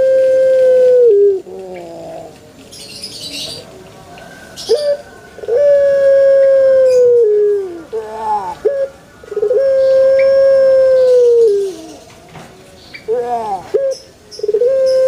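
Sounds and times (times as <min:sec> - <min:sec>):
dove cooing: 0:00.0 - 0:03.7, 0:04.3 - 0:12.1, 0:13.0 - 0:15.0.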